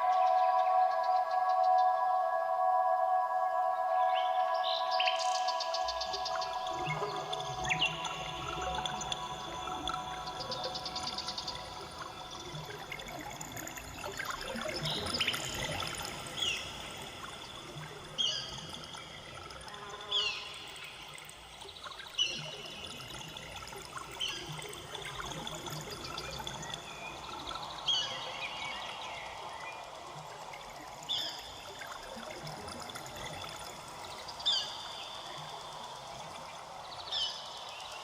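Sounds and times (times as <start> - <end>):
water trickling: 4.0 - 38.0.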